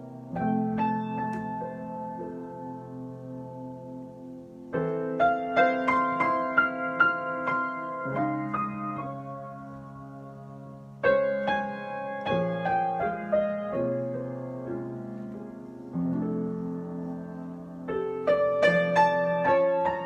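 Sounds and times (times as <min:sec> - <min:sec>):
solo piano chords: 0:00.0 - 0:20.0.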